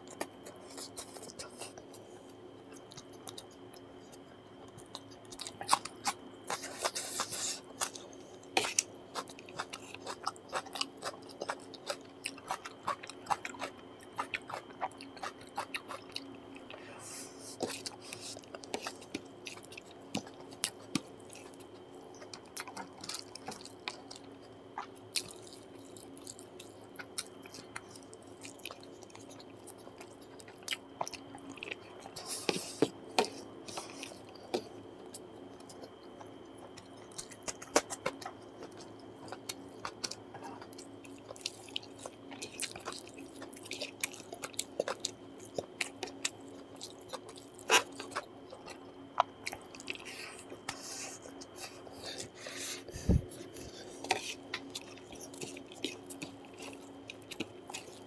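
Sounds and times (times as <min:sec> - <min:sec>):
faint steady hum: 0:00.0 - 0:58.0
close chewing: 0:02.7 - 0:16.8, 0:17.5 - 0:58.0.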